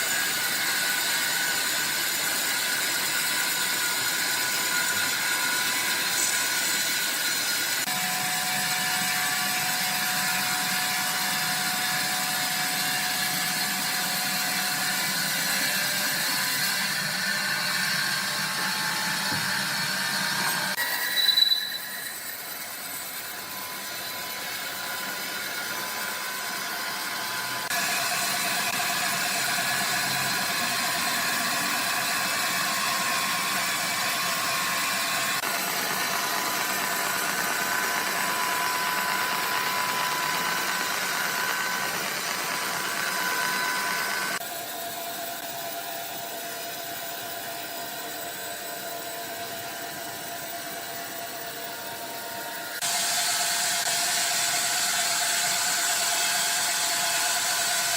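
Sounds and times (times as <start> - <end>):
faint machine whines: 0.0 - 57.9
sawmill machinery running: 0.0 - 57.9.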